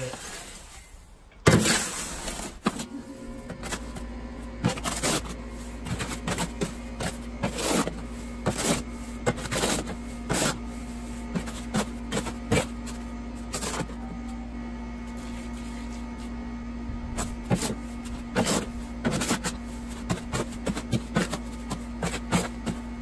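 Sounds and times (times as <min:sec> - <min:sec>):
shovel scraping gritty mix: 0:00.0 - 0:14.3, 0:15.0 - 0:16.4, 0:17.1 - 0:23.0.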